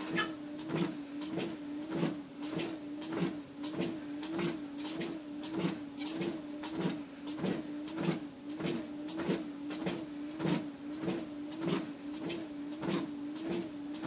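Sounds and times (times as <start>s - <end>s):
footsteps on treadmill belt: 0.0s - 14.0s
treadmill motor hum: 0.0s - 14.0s.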